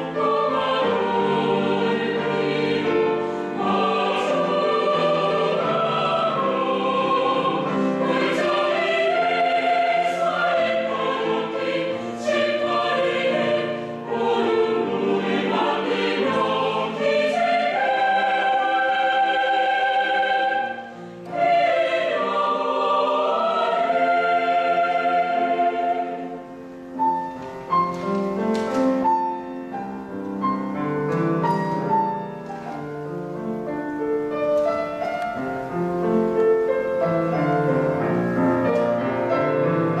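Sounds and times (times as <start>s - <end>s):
choir singing: 0.0s - 27.8s, 30.8s - 40.0s
piano accompaniment: 0.0s - 40.0s.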